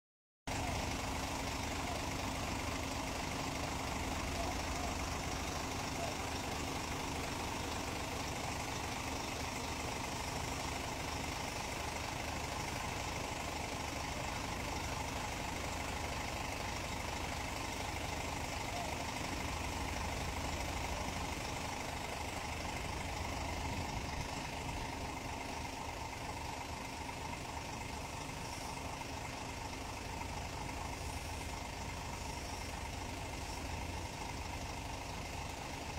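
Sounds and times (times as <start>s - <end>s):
diesel engine idling: 0.5s - 35.9s.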